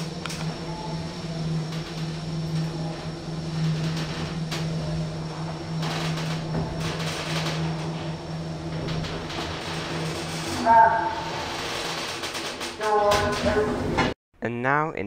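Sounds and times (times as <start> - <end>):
lift motor hum: 0.0 - 14.2
lift ride noise: 0.0 - 14.2.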